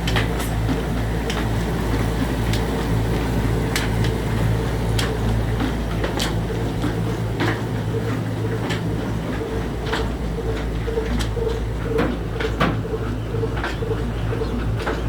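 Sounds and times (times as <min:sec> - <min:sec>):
diesel engine droning: 0:00.0 - 0:15.0
engine knocking: 0:00.0 - 0:15.0.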